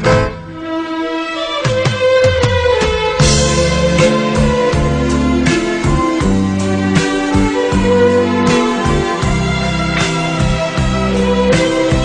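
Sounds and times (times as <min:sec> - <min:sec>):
slow ballad instrumental: 0:00.0 - 0:12.0.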